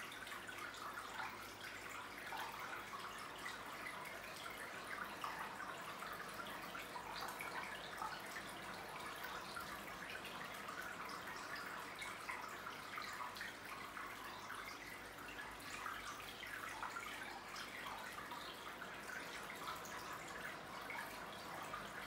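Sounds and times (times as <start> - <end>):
drips and bubbles: 0.0 - 22.0
water trickling and splashing: 0.0 - 22.0.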